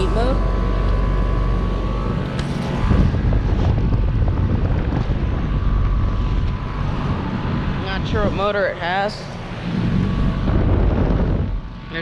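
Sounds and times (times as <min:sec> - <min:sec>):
heat pump compressors humming: 0:00.0 - 0:12.0
wind buffeting microphone: 0:00.0 - 0:12.0.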